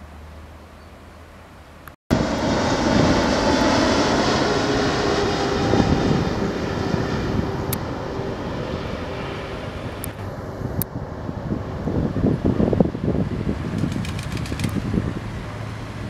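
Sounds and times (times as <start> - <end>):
jet airliner passing overhead: 2.1 - 16.0.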